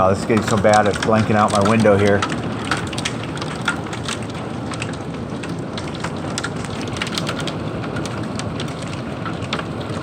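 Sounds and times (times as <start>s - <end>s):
hailstones ticking: 0.0s - 10.0s
heavy rain downpour: 0.0s - 10.0s.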